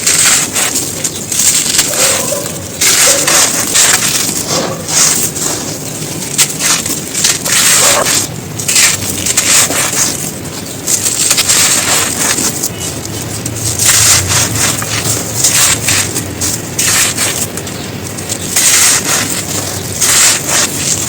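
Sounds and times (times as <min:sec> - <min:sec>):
brittle material crunching: 0:00.0 - 0:21.0.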